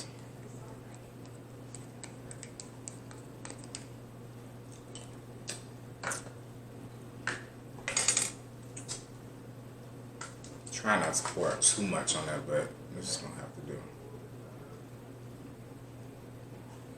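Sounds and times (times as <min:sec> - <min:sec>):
low steady hum: 0:00.0 - 0:16.9.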